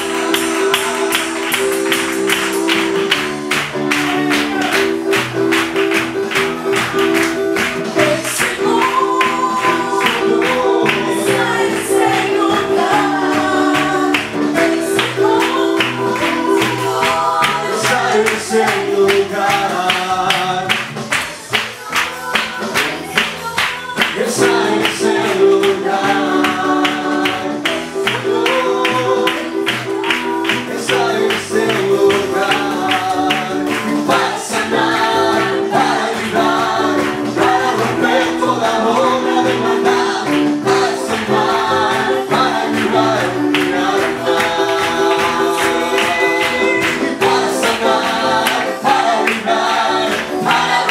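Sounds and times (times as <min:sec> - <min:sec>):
instrumental accompaniment with beat: 0:00.0 - 0:50.9
voices singing worship song: 0:00.0 - 0:50.9.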